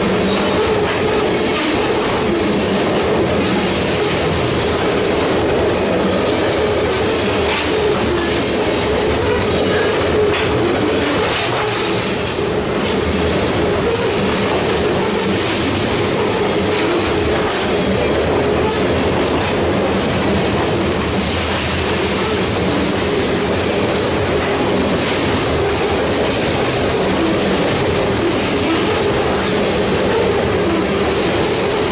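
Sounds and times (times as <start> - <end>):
clicks of train wheels: 0.0 - 31.9
steel wheels on rails: 0.0 - 31.9.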